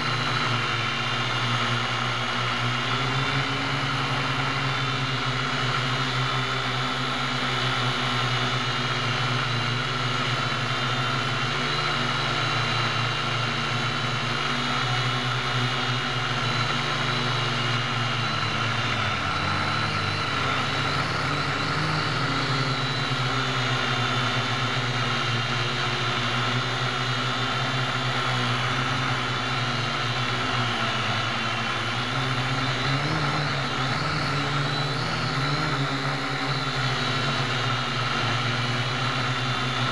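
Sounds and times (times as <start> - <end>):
quadcopter propellers whirring: 0.0 - 39.9.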